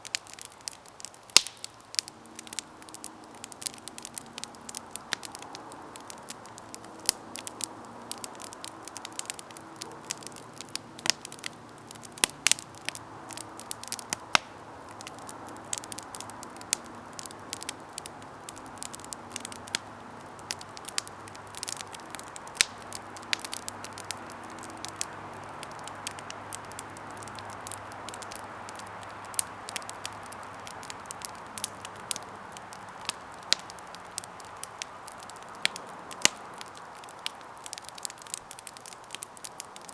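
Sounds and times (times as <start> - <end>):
wood crackling and popping: 0.0 - 39.9.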